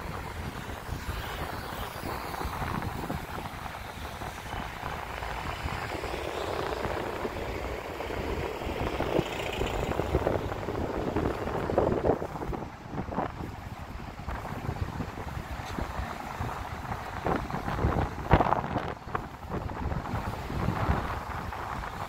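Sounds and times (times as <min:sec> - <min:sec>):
road traffic passing: 0:00.0 - 0:22.0
wind rumbling on microphone: 0:00.0 - 0:22.0.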